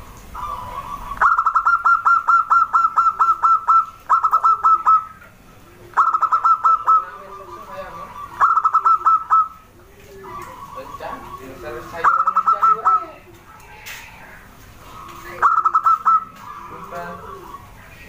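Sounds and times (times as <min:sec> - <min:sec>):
dove calling quick repeated notes: 0:00.0 - 0:18.0.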